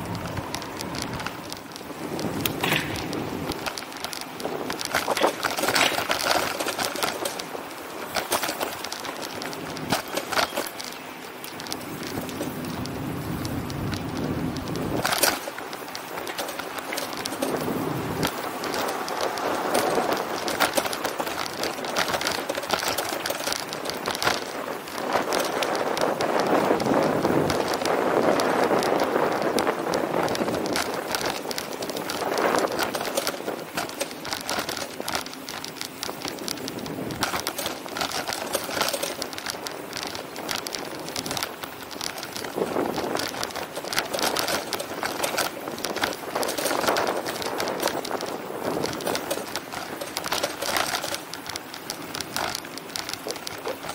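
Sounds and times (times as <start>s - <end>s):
bicycle rattles and clicks: 0.0s - 53.9s
bicycle road noise: 0.0s - 53.9s
wind noise: 0.0s - 53.9s.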